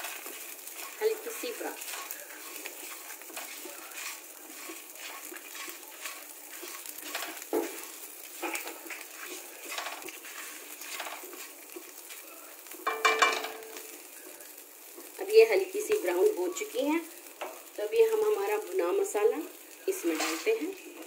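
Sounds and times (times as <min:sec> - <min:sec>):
oil sizzling: 0:00.0 - 0:21.0
spatula scraping chillies in wok: 0:00.0 - 0:21.0.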